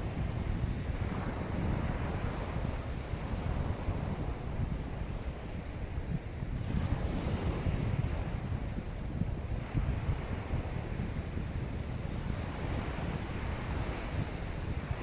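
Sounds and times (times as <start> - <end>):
waves washing on beach: 0.0 - 15.0
wind buffeting microphone: 0.0 - 15.0.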